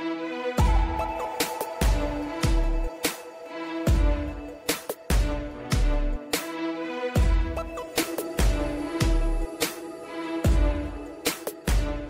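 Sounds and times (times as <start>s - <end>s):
electronic beat music: 0.4s - 12.0s.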